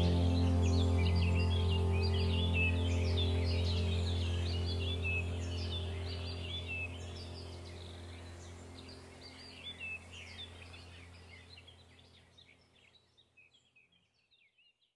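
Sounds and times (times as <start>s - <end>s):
low steady hum: 0.0s - 13.0s
small birds chirping: 0.0s - 14.9s.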